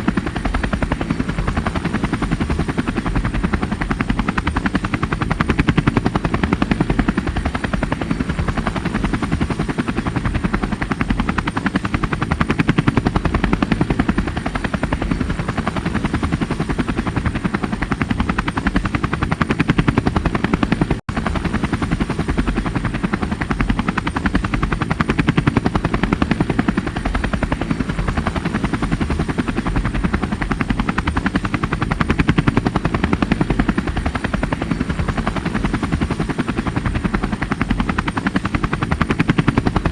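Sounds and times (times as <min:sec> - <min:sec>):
helicopter rotor chopping: 0:00.0 - 0:39.9.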